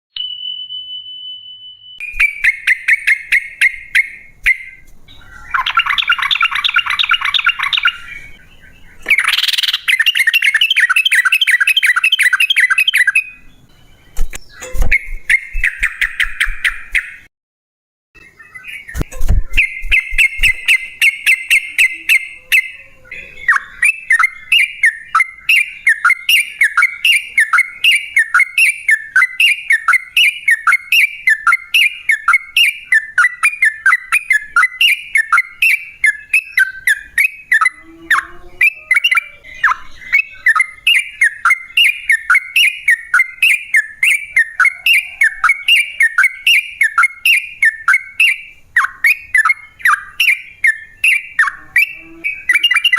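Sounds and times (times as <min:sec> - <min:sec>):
bird singing trills and falling notes: 0:00.1 - 0:17.3, 0:18.2 - 0:52.9.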